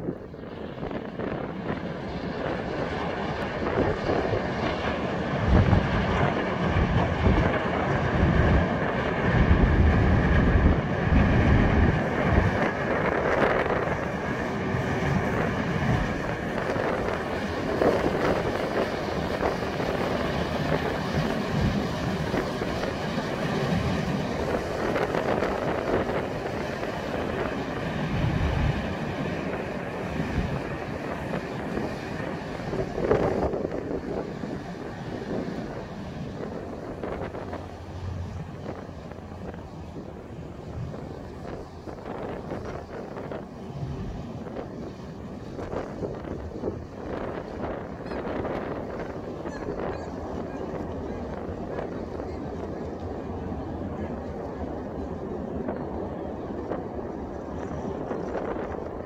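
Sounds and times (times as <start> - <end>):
ship engines humming: 0.0 - 59.0
wind buffeting microphone: 0.0 - 59.0
propeller wash churning: 0.8 - 55.6.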